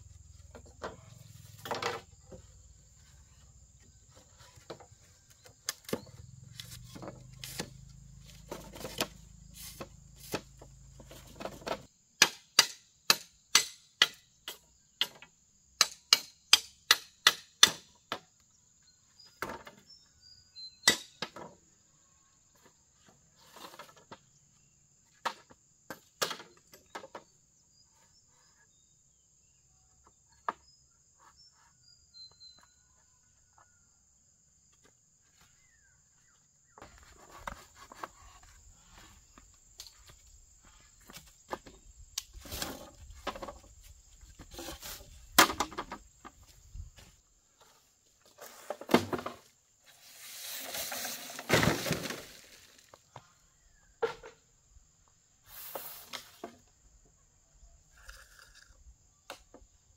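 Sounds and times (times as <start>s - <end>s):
faint high insect-like tone: 0.0s - 12.0s, 17.9s - 59.9s.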